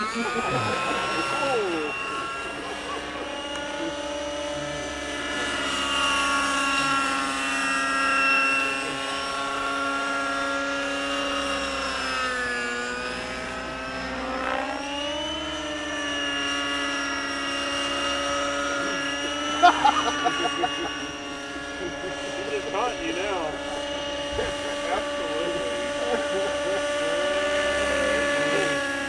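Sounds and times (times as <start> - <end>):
model helicopter engine whine: 0.0 - 29.0.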